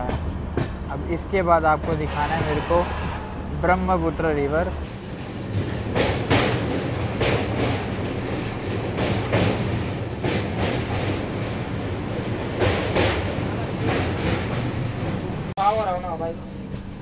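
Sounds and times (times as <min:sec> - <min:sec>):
train wheels clacking on rail joints: 0:00.0 - 0:02.7, 0:03.7 - 0:17.0
train rumbling: 0:00.0 - 0:17.0.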